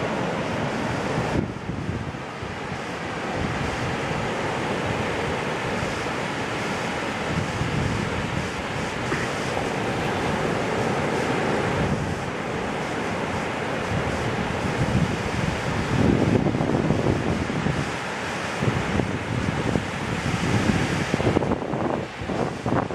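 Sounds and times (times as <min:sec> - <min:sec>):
waves breaking: 0:00.0 - 0:22.9
wind buffeting microphone: 0:00.0 - 0:22.9.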